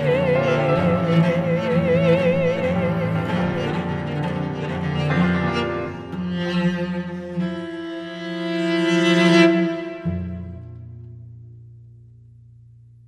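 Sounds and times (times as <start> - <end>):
bowed cello chords: 0.0 - 11.2.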